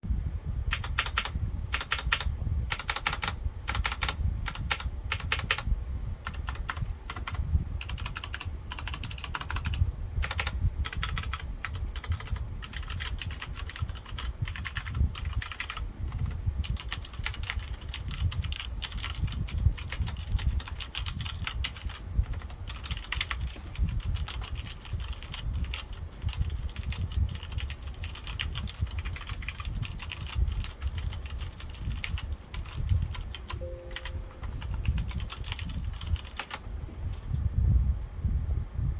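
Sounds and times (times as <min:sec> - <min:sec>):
mechanical keyboard typing: 0:00.7 - 0:37.4.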